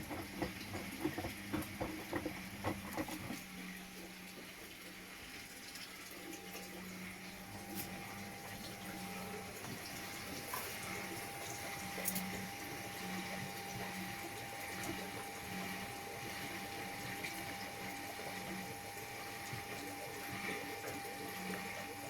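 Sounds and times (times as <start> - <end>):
water splashing in washing machine: 0.0 - 22.0.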